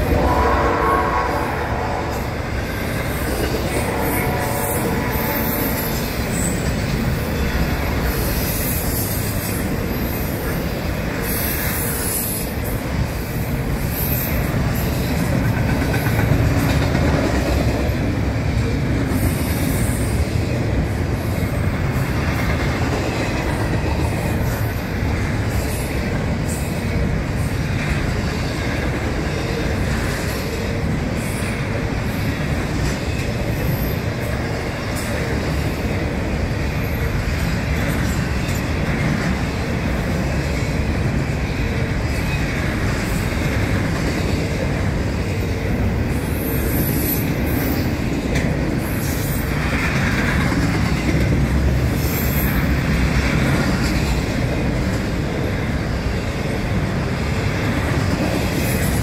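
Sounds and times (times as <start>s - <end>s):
freight train wheels rolling: 0.0s - 59.0s.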